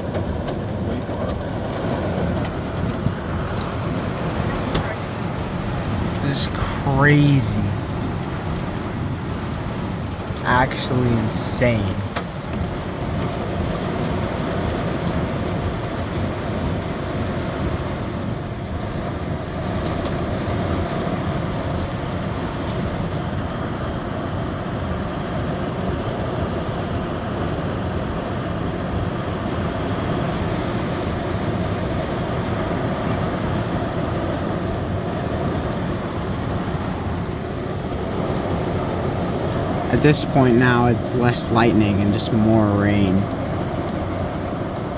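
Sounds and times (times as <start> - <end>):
heavy rain on car roof: 0.0 - 44.9.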